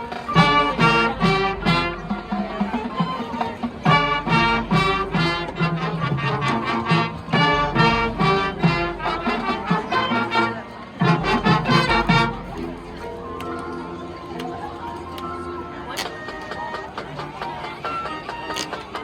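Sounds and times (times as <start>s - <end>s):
brass instruments: 0.0s - 19.0s
marching band playing: 0.0s - 19.0s.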